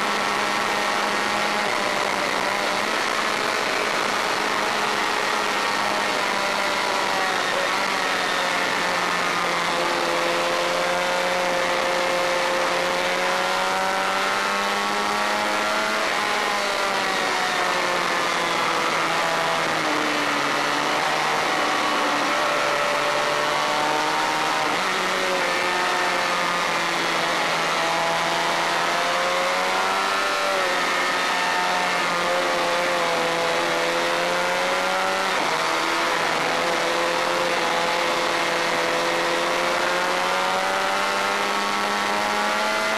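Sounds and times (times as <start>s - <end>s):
race bike engine revving: 0.0s - 42.9s.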